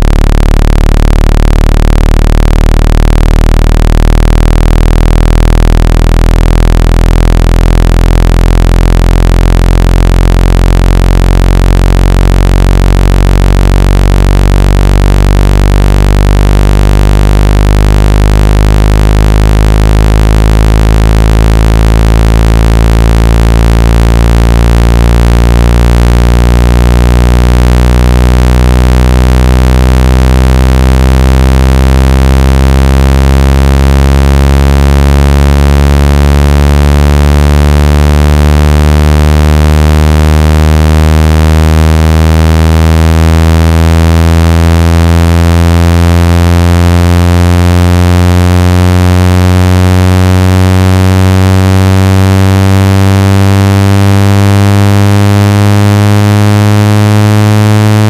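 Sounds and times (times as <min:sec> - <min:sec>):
synthesized buzzing tone rising: 0:00.0 - 0:58.0.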